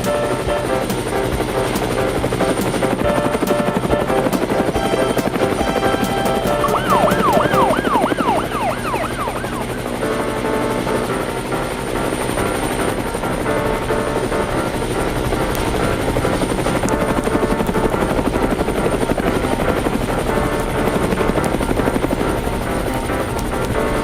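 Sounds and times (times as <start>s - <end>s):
background music: 0.0s - 24.0s
cartoon helicopter rotor chopping: 0.0s - 24.0s
fast rising and falling wail: 0.0s - 24.0s.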